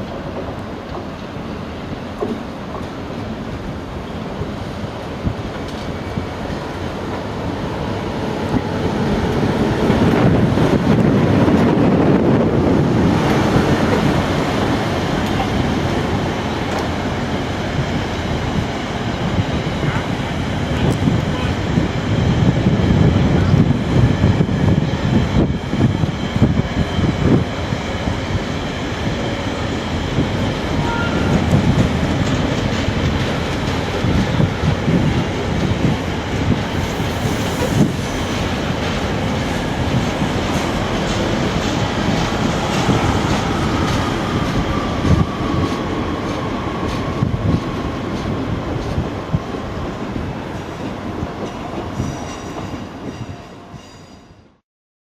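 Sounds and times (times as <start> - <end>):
train wheels clattering on rails: 0.0 - 54.2.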